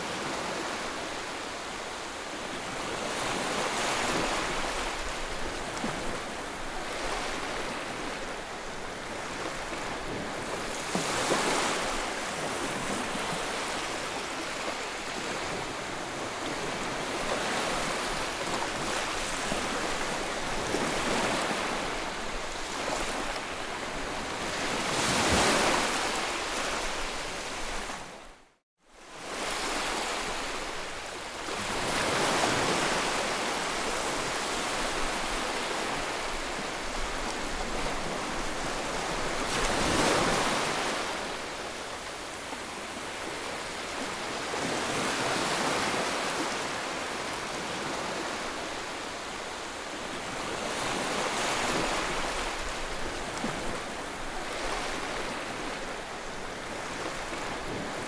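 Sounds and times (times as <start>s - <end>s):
ocean waves breaking: 0.0s - 28.2s, 29.2s - 58.0s.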